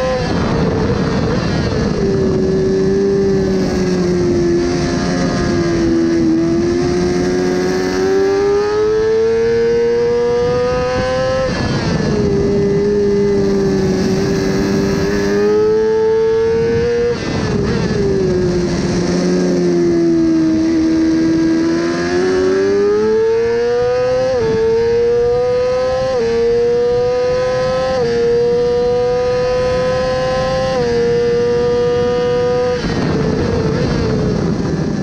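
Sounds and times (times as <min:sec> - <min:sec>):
motorcycle engine revving: 0:00.0 - 0:35.0
wind rush: 0:00.0 - 0:35.0.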